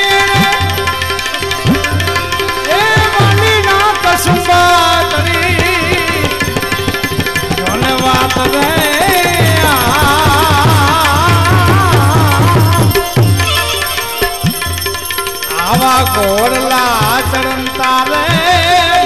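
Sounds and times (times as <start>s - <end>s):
tabla rhythm: 0.0s - 19.0s.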